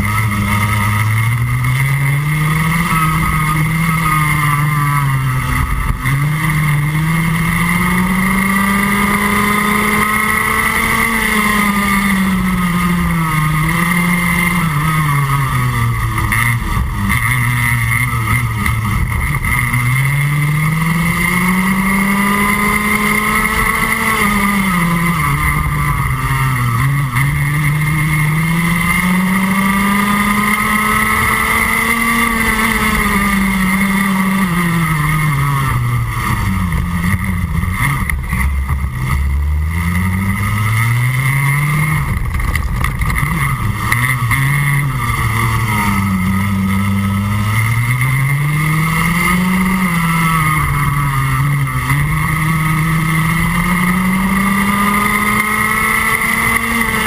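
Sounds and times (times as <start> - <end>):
kart engine at racing speed: 0.0 - 57.0.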